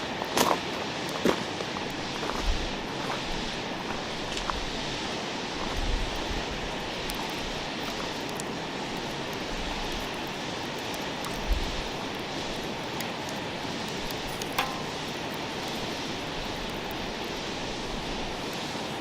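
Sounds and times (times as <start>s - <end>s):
campfire hiss: 0.0s - 19.0s
fire crackles: 0.0s - 19.0s.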